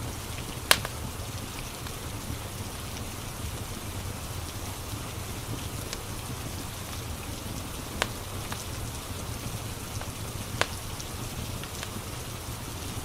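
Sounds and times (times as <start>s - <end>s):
steady rain falling: 0.0s - 13.0s
wood fire crackling and popping: 0.0s - 13.0s.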